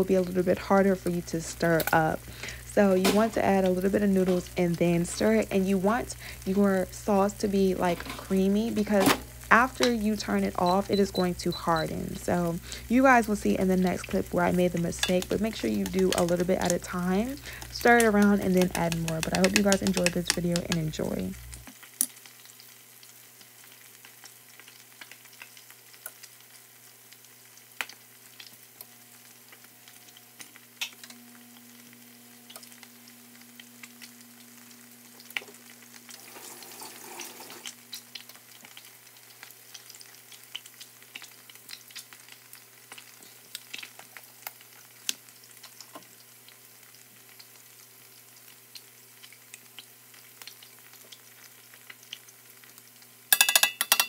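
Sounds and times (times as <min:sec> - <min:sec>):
butter sizzling in frying pan: 0:00.0 - 0:54.0.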